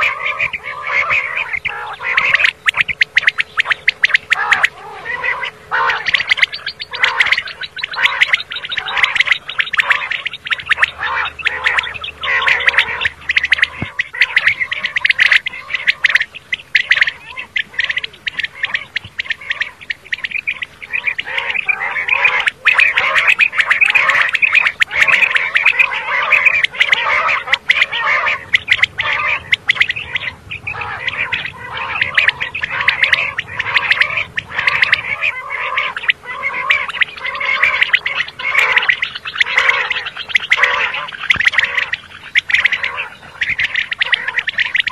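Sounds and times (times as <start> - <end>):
quail calling: 0.0 - 44.9.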